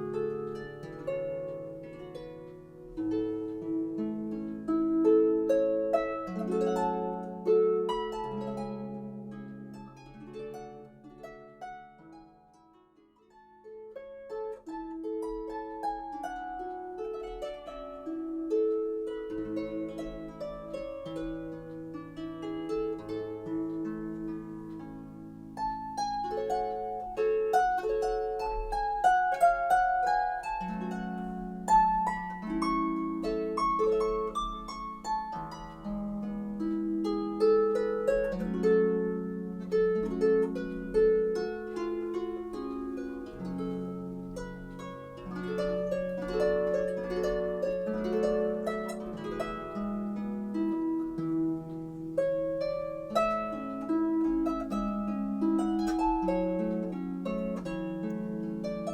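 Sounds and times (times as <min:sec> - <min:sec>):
solo harp music: 0:00.0 - 0:58.9.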